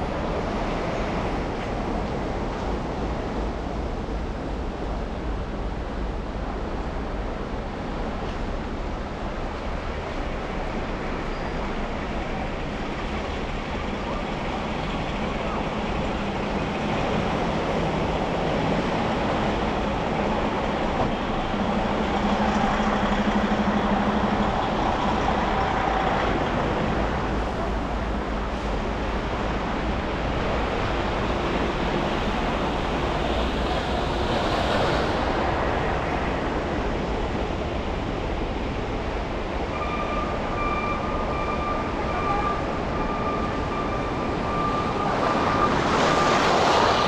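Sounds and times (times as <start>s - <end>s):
road and traffic noise: 0.0s - 47.0s.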